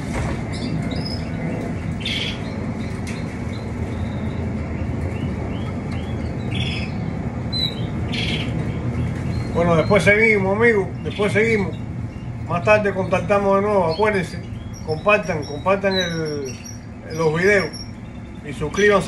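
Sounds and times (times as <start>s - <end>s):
canaries chirping: 0.0s - 19.0s
steady low hum: 0.0s - 19.0s.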